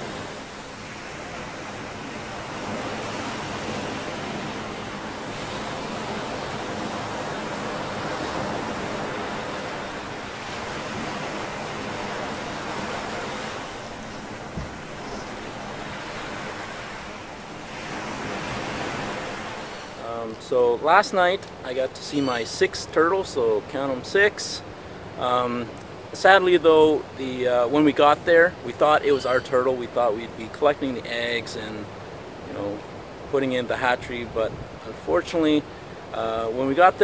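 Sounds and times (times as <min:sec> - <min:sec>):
ocean surf breaking: 0:00.0 - 0:37.0.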